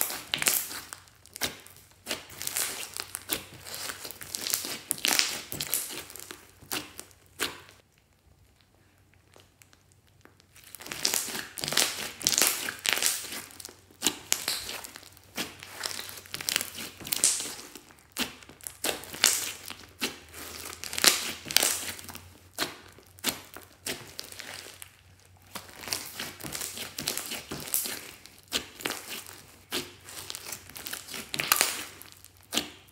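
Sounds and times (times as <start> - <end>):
slime crackling and squelching: 0.0 - 32.9.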